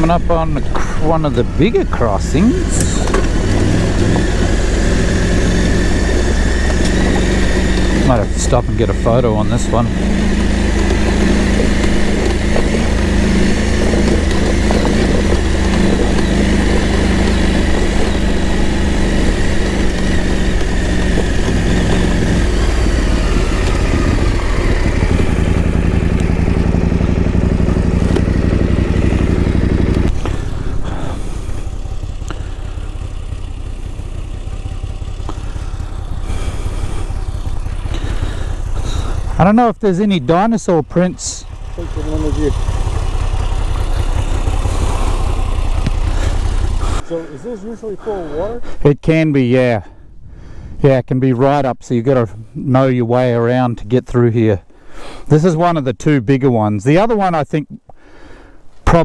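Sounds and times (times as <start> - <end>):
motorcycle engine running: 0.0 - 48.7.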